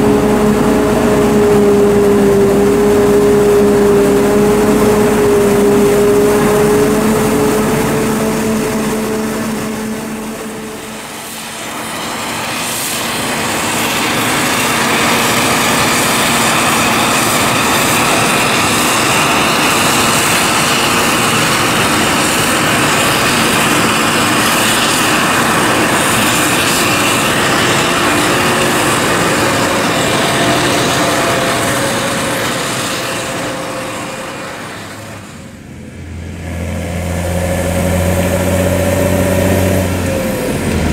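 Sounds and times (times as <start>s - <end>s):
tractor engine hum: 0.0s - 40.9s.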